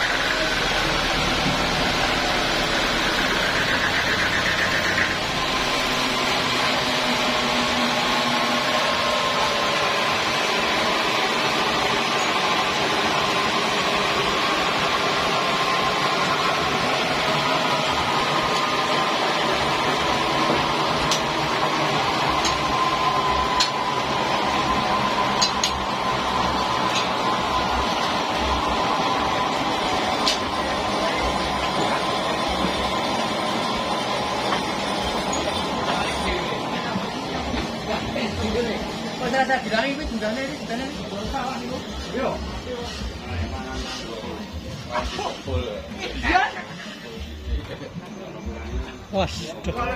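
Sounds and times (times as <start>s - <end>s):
sawmill machinery running: 0.0s - 48.1s.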